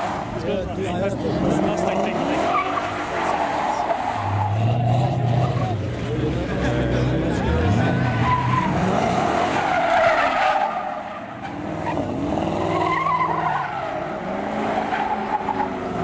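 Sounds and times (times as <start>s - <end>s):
car engine revving: 0.0s - 16.0s
tyres squealing: 1.7s - 5.9s, 7.1s - 15.8s.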